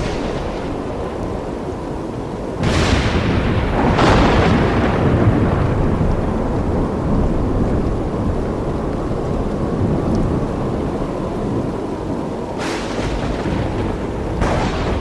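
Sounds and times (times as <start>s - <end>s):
thunder crack and rumble: 0.0s - 15.0s.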